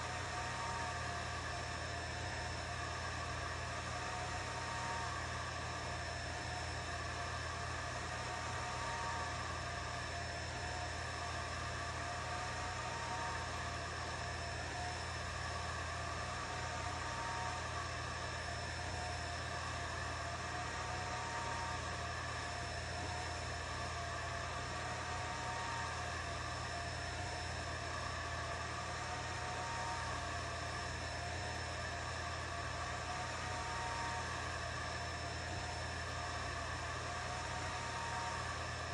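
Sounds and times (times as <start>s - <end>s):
laser engraver motor whirring: 0.0s - 38.9s.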